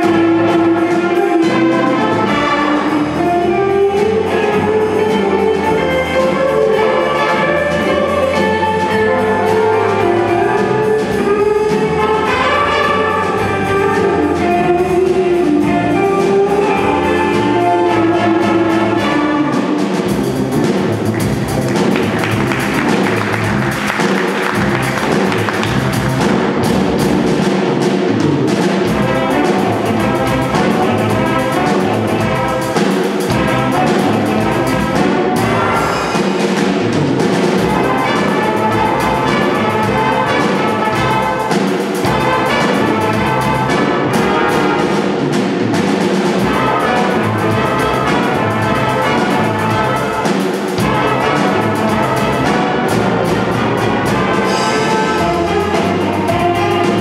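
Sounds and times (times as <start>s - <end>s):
big band jazz: 0.0s - 57.0s
swinging drum kit: 0.0s - 57.0s.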